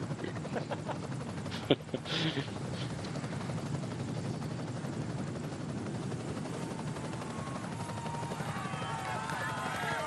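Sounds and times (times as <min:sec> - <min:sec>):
helicopter rotor drone: 0:00.0 - 0:10.0.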